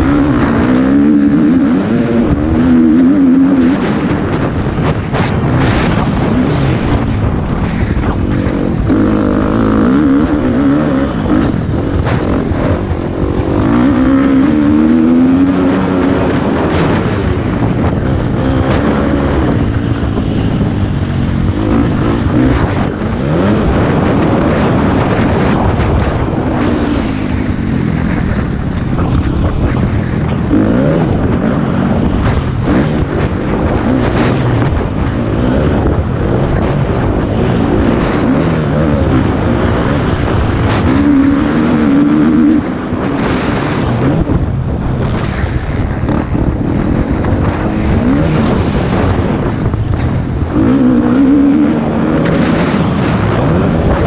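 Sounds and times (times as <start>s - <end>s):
motocross bike engine revving: 0.0s - 54.0s
wind buffeting microphone: 0.0s - 54.0s.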